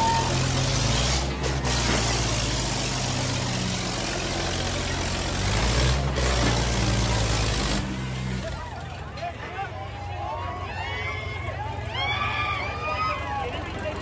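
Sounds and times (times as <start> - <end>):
crowd noise: 0.0 - 14.0
tractor engine under load: 0.0 - 14.0.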